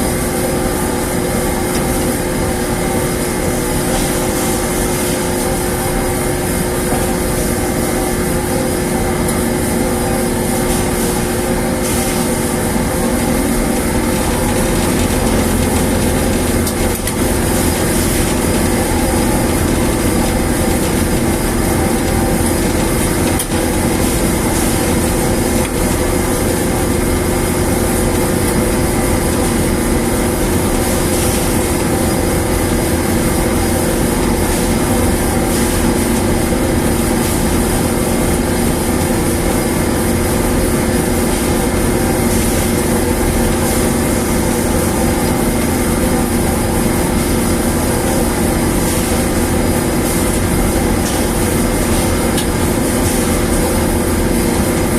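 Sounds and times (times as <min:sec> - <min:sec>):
dryer machine droning: 0:00.0 - 0:54.9.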